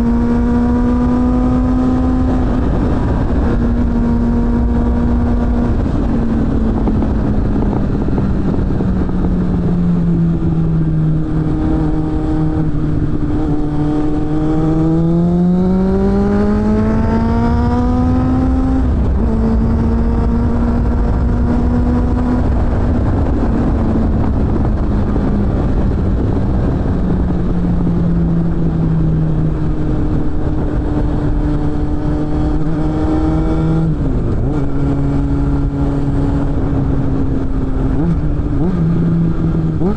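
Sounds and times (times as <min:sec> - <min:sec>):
motorcycle engine accelerating: 0:00.0 - 0:39.9
wind rushing: 0:00.0 - 0:39.9.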